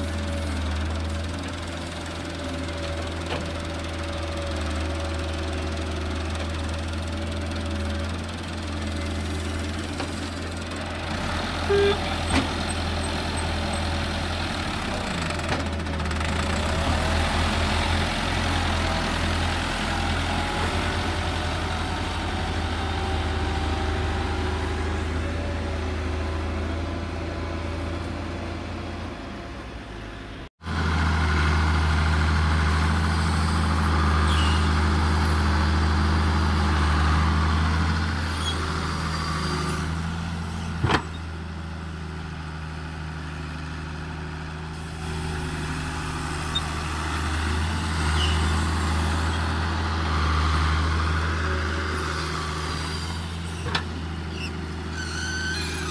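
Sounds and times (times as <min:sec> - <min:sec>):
excavator diesel engine running: 0:00.0 - 0:55.9
tractor diesel engine running: 0:00.0 - 0:55.9.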